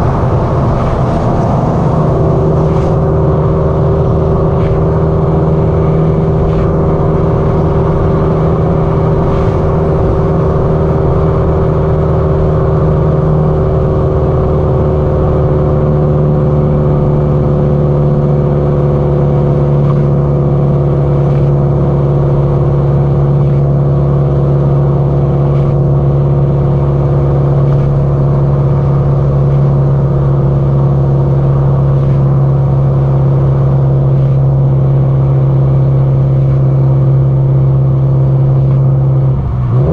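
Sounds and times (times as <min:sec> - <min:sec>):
car exhaust cruising at speed: 0:00.0 - 0:39.9.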